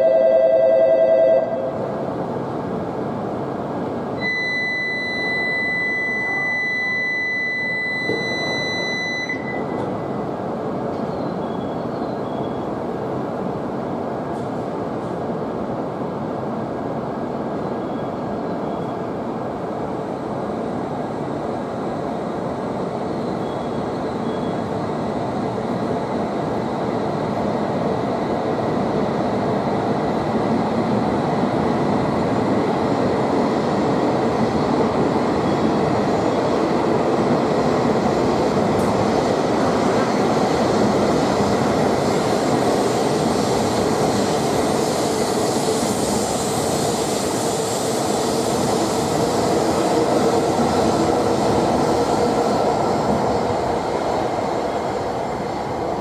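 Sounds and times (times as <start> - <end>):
train running past: 0.0 - 56.0.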